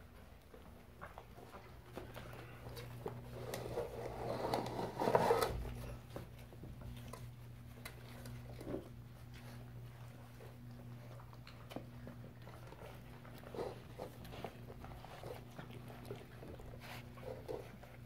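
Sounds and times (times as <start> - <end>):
paws on wooden floor: 0.0 - 18.0
puppies chewing and lapping: 0.0 - 18.0
steady low hum: 0.0 - 18.0.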